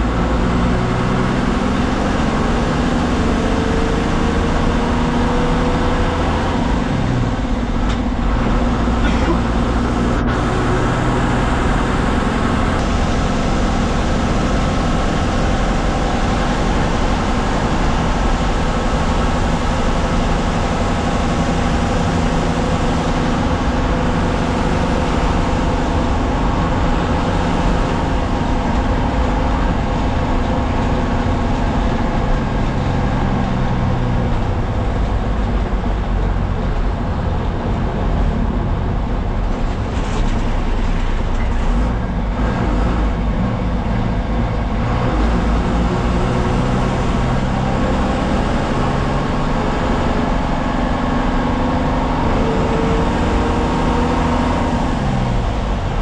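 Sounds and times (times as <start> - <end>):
bus diesel engine running: 0.0 - 56.0
road and tyre noise: 0.0 - 56.0.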